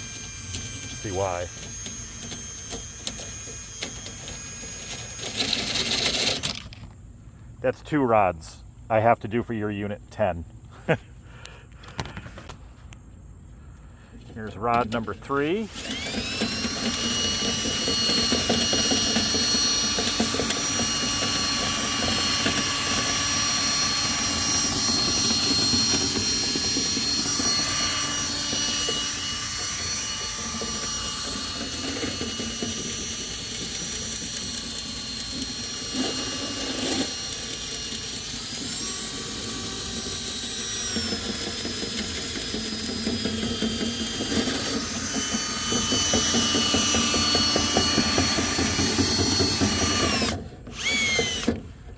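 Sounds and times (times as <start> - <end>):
drill motor whine: 0.0 - 7.0, 14.2 - 51.6.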